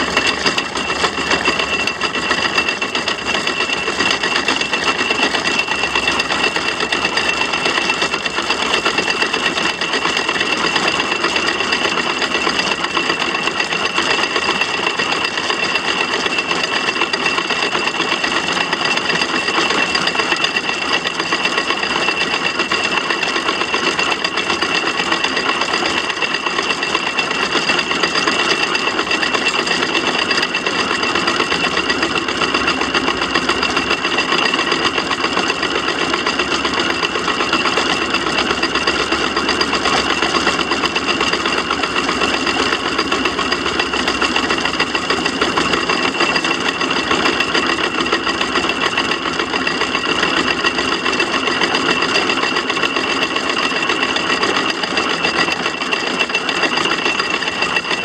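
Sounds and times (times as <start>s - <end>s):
steam traction engine clattering: 0.0s - 58.0s.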